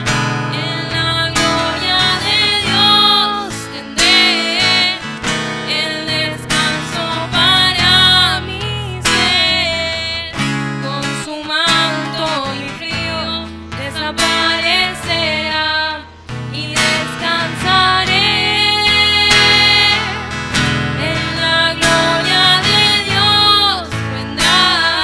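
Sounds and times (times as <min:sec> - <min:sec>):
bass: 0:00.0 - 0:25.0
person singing: 0:00.0 - 0:25.0
strummed acoustic guitar: 0:00.0 - 0:25.0.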